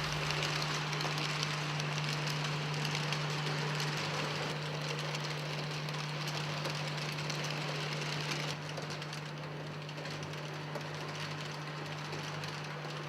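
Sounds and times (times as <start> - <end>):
model train humming and rattling: 0.0 - 13.0.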